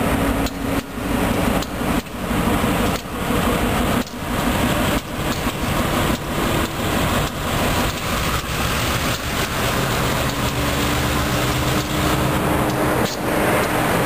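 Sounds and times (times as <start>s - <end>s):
locomotive engines humming: 0.0s - 14.0s
wheels knocking on rails: 0.4s - 14.0s.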